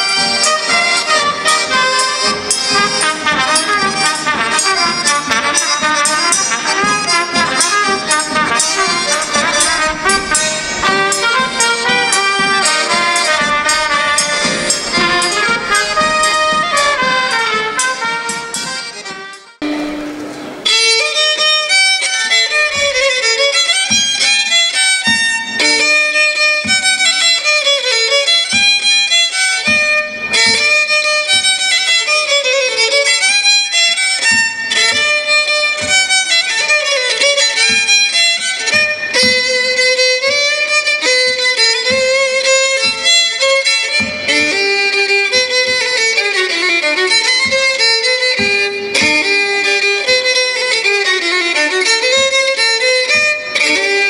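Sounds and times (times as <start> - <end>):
folk fiddle playing dance tune: 0.0 - 54.0.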